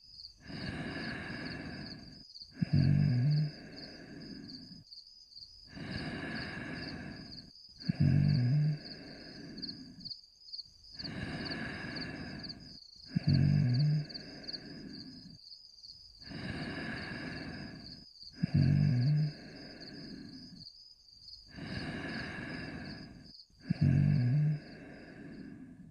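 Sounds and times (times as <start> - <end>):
cartoon dog snoring: 0.4 - 4.6, 5.7 - 10.0, 11.0 - 15.4, 16.2 - 20.6, 21.5 - 25.9
soft breathing: 0.4 - 4.9, 5.7 - 10.1, 10.9 - 15.4, 16.2 - 20.7, 21.4 - 25.9.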